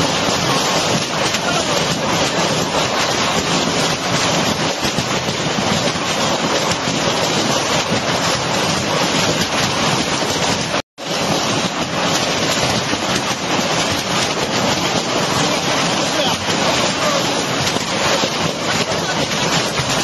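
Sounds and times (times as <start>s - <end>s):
heavy rain on concrete roofs: 0.0s - 20.0s
wind noise on microphone: 0.0s - 20.0s.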